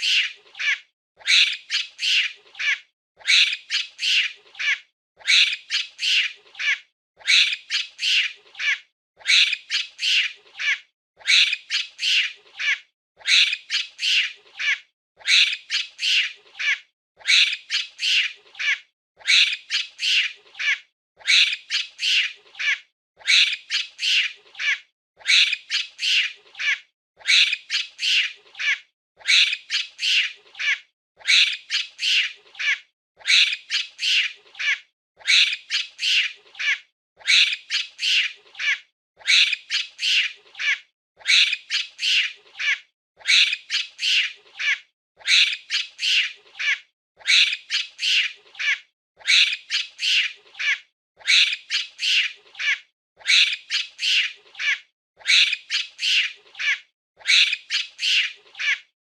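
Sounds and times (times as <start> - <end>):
monkey squawking calls: 0.0 - 58.9.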